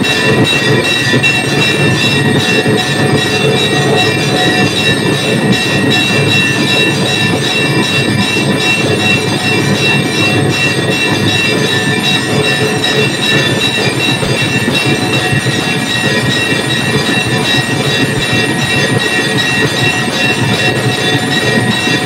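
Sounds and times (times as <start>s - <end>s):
brass bells clanging: 0.0s - 22.0s.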